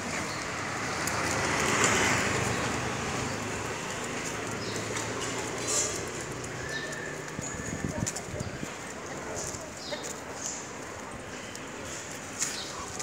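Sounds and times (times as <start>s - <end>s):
street traffic hiss: 0.0s - 13.0s.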